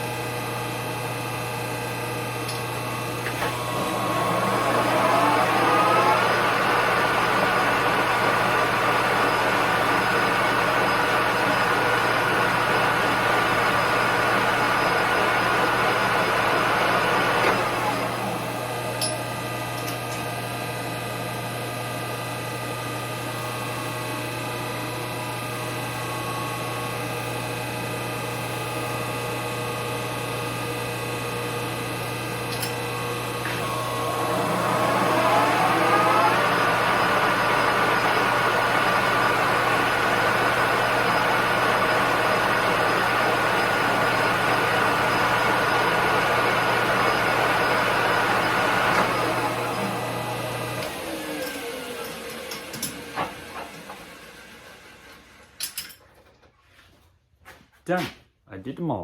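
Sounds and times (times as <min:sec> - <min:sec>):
lathe motor running: 0:00.0 - 0:55.4.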